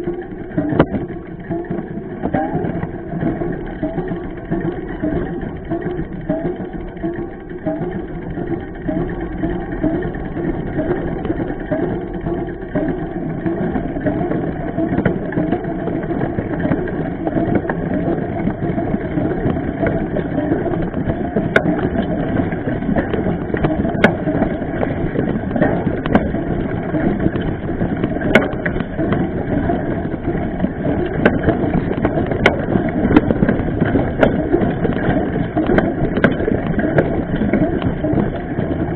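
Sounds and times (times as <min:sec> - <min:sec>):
bike tyre and frame rattling: 0:00.0 - 0:38.9.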